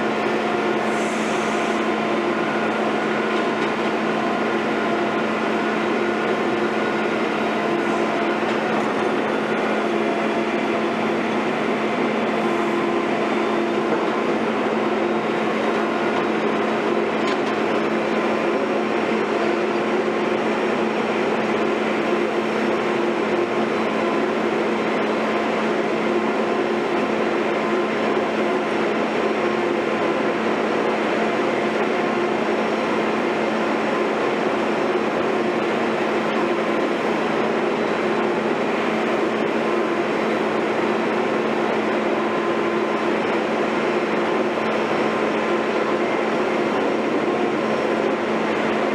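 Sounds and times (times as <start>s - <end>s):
heavy machinery engine droning: 0.0s - 48.9s.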